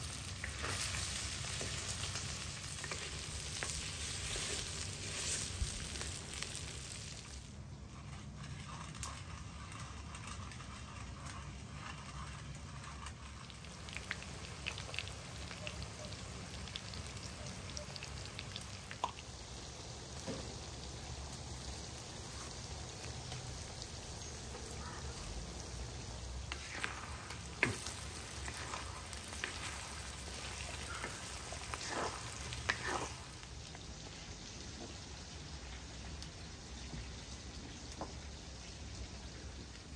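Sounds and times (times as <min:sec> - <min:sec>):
chicken sizzling in oil: 0:00.0 - 0:39.9
wood fire crackling: 0:00.0 - 0:39.9.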